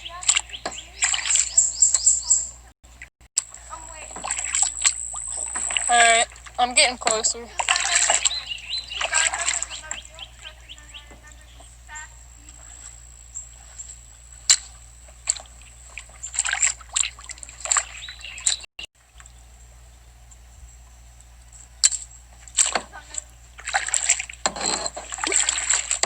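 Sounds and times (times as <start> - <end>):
paddle splashing in water: 0.0 - 2.5, 3.4 - 11.8, 12.5 - 19.2, 21.9 - 26.0.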